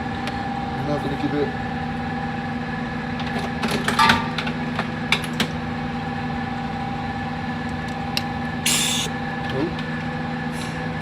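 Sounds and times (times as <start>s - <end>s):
workshop machine hum: 0.0s - 11.0s.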